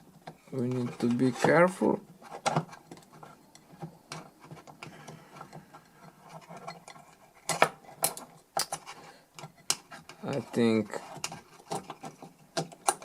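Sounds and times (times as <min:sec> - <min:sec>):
tools clicking and knocking on metal: 0:02.3 - 0:13.0.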